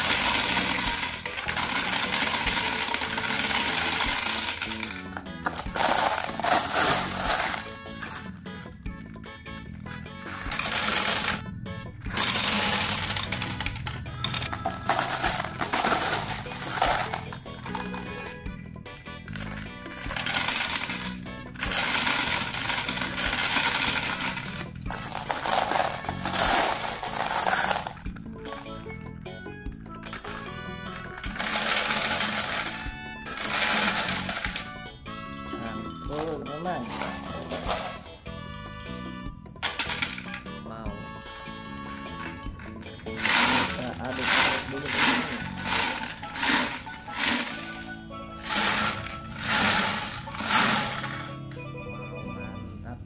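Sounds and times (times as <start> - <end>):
marbles clattering into plastic drum: 0.0 - 8.4, 9.8 - 11.4, 12.1 - 18.5, 19.3 - 29.1, 29.9 - 34.8, 36.1 - 38.2, 39.6 - 40.6, 42.1 - 51.5
marbles clinking together: 0.0 - 8.4, 9.9 - 11.4, 12.1 - 18.4, 19.3 - 28.8, 30.0 - 34.8, 36.1 - 38.1, 39.6 - 40.6, 42.1 - 51.4
background music: 0.0 - 53.0.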